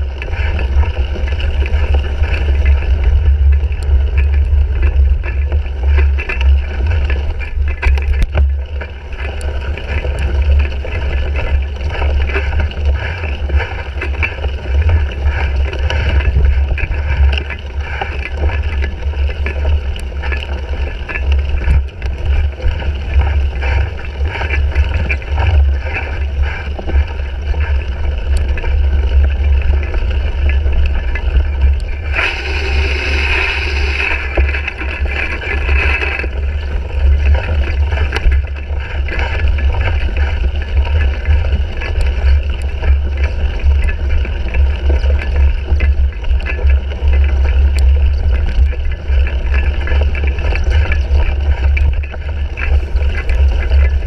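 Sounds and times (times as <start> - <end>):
bike rattles and clicks: 0.0 - 54.0.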